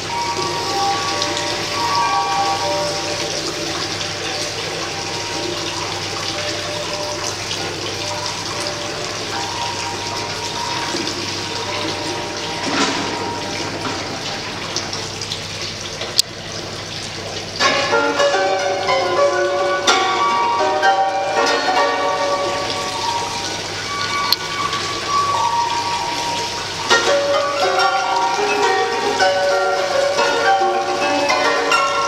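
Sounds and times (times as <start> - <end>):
water splashing into metal buckets: 0.0 - 32.0.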